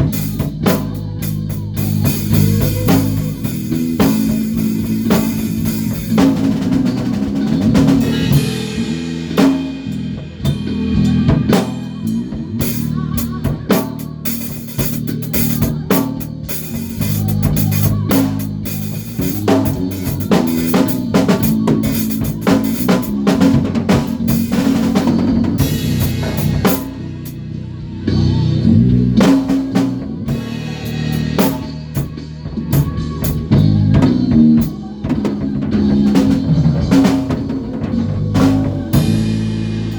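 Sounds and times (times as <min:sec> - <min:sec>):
drum kit playing a groove: 0:00.0 - 0:27.5, 0:28.1 - 0:39.9
bass guitar low notes: 0:00.0 - 0:39.9.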